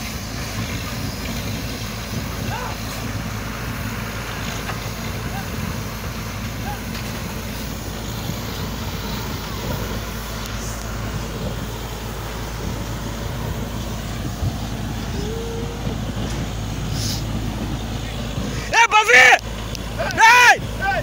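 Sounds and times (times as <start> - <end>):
air compressor running: 0.0 - 21.0
drilling rig engine running: 0.0 - 21.0
rushing hiss: 0.0 - 21.0.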